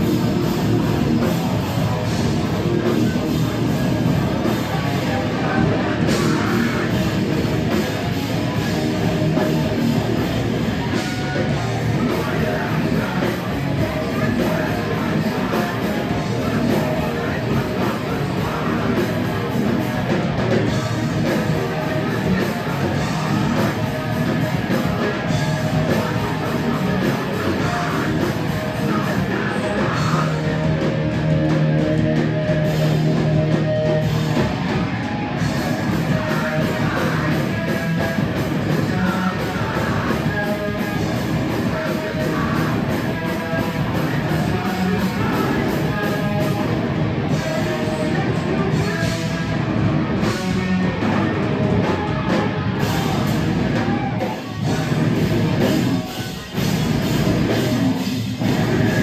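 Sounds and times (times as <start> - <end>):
distorted guitars: 0.0 - 59.0
shouted vocals: 0.0 - 59.0.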